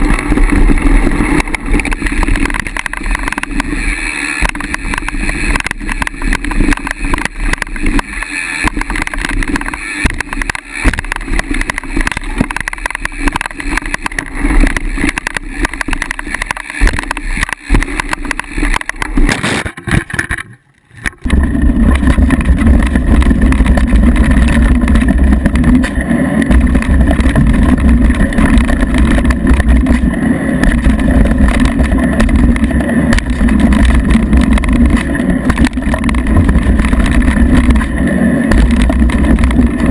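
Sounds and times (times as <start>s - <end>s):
bike tyres and frame rattling: 0.0s - 39.9s.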